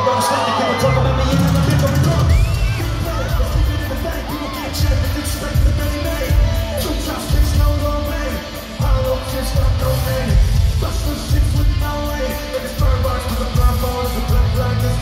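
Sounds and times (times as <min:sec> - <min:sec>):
hip-hop beat with heavy bass: 0:00.0 - 0:15.0.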